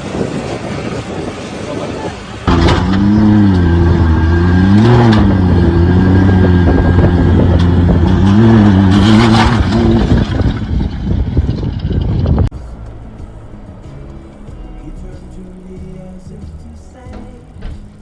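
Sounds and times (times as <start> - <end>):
noisy rushes: 0.0 - 15.6
vehicle engine running hard: 0.0 - 18.0.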